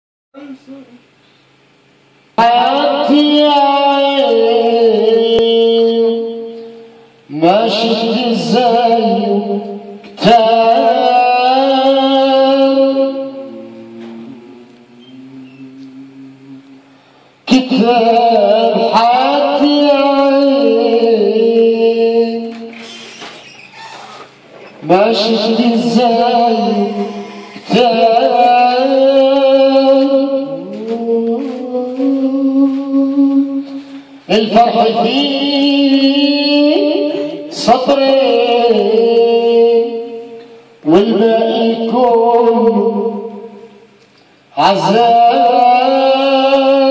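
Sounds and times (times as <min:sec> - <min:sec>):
man singing into a microphone: 0:02.4 - 0:16.8, 0:17.4 - 0:22.9, 0:24.8 - 0:43.9, 0:44.5 - 0:46.9.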